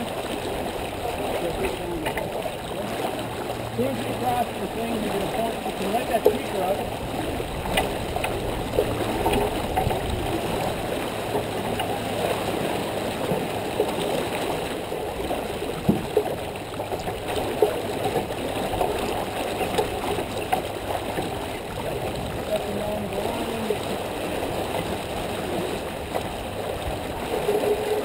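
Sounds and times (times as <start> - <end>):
boat knocks: 0.0 - 28.0
water rushing along hull: 0.0 - 28.0.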